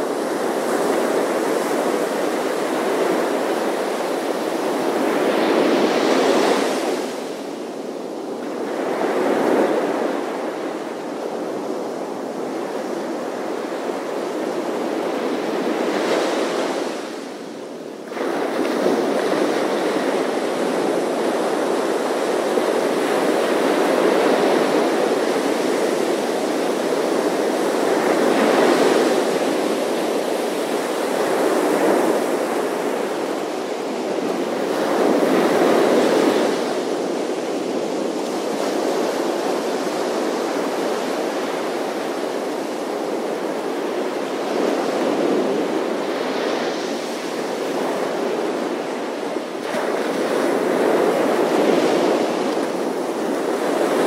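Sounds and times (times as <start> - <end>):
ocean surf breaking on sand: 0.0 - 54.0.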